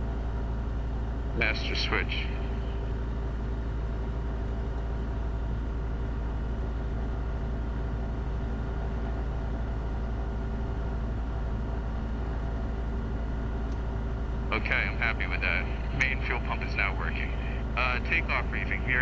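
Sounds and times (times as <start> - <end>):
light aircraft engine running: 0.0 - 19.0.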